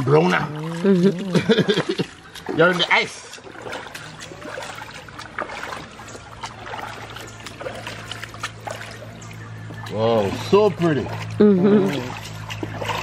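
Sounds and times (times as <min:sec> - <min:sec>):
river water trickling and lapping: 0:00.0 - 0:13.0
small knocks and splashes: 0:00.0 - 0:13.0
steady low hum: 0:00.1 - 0:13.0.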